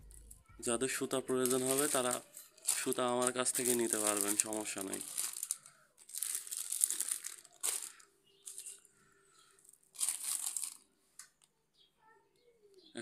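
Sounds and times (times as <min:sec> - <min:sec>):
plastic wrapping crinkling: 0:00.0 - 0:11.5.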